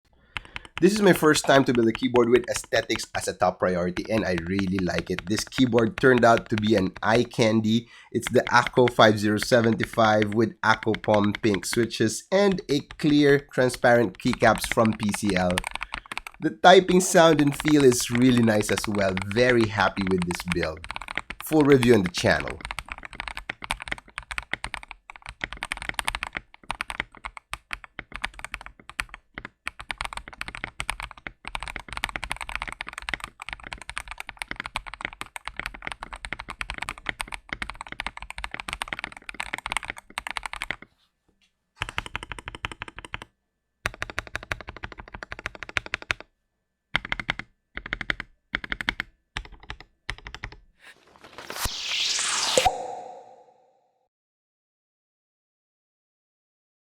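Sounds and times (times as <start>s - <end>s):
mechanical keyboard typing: 0.3s - 40.9s, 41.8s - 43.3s, 43.9s - 46.3s, 47.0s - 50.6s.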